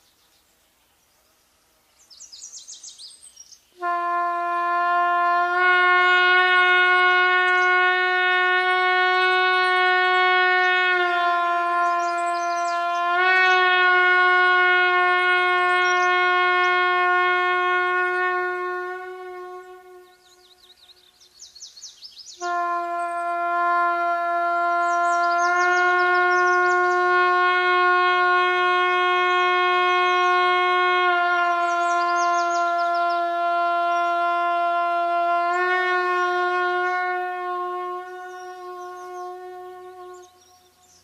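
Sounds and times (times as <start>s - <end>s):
long steady horn notes: 3.8s - 21.6s, 22.4s - 41.0s.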